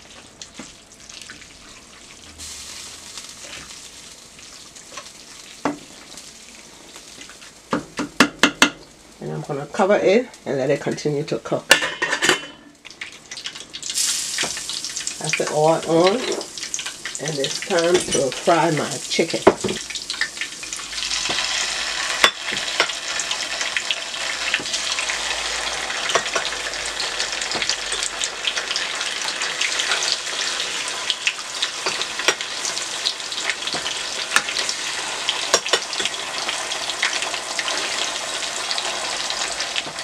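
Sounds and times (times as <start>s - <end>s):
chicken sizzling in hot oil: 0.0s - 11.0s, 12.7s - 40.0s.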